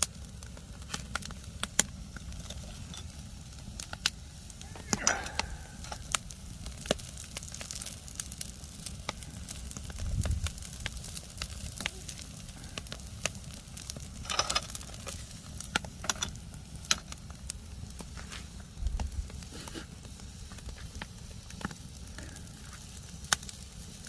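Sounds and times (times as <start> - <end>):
fish sizzling on grill: 0.0 - 24.0
wood fire crackling and popping: 0.0 - 24.0.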